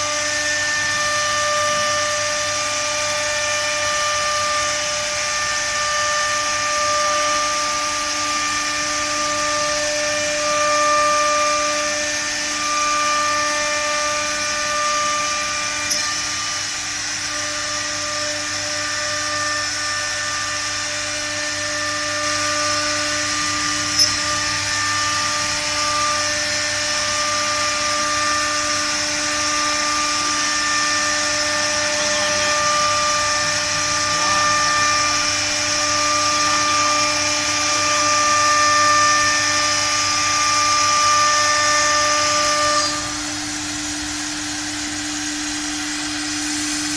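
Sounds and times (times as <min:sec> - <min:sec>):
hiss of wood cutting: 0:00.0 - 0:46.9
router spindle whining: 0:00.0 - 0:46.9.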